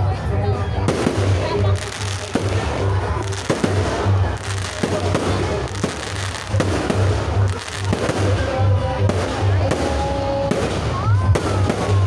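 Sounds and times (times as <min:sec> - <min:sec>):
music with pulsing bass beat: 0:00.0 - 0:12.0
fireworks banging: 0:00.8 - 0:12.0.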